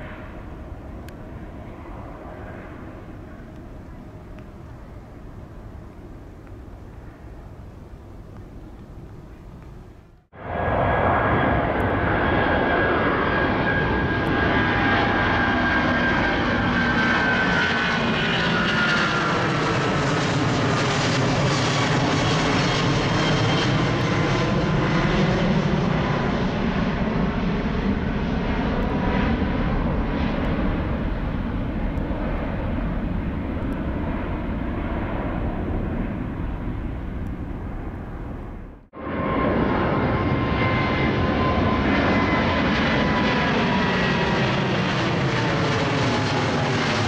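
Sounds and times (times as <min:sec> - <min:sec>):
jet engine whines falling in pitch: 0:00.0 - 0:47.0
jet roar overhead: 0:00.0 - 0:47.0.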